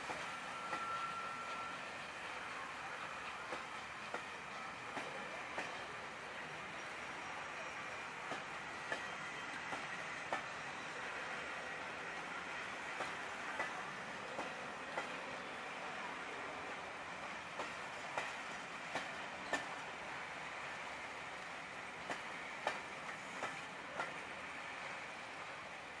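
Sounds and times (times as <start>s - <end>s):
train coaches rolling on rails: 0.0s - 26.0s.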